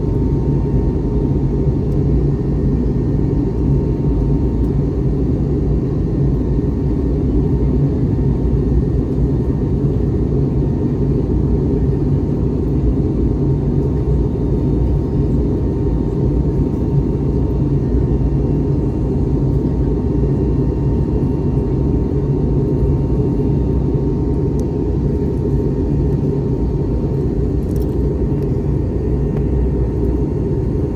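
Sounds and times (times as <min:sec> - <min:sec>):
aircraft cabin engine rumble: 0:00.0 - 0:30.9
faint steady whine: 0:00.0 - 0:30.9.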